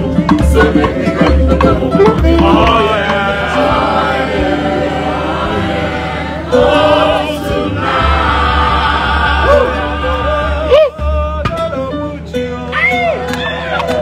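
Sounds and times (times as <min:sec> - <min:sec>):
bass and drums: 0:00.0 - 0:14.0
gospel choir singing: 0:00.0 - 0:14.0.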